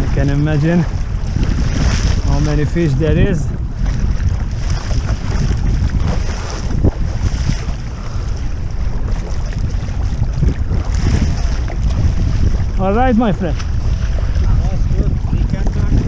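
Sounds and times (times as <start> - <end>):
sea water splashing: 0.0 - 16.0
wind buffeting microphone: 0.0 - 16.0.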